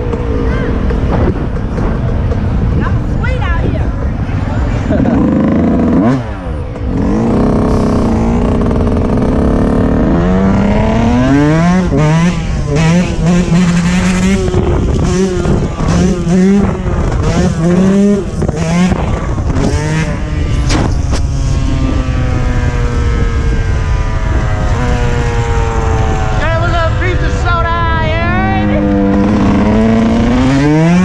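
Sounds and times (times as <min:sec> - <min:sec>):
dirt bike engine revving: 0:04.8 - 0:27.4, 0:28.1 - 0:31.0.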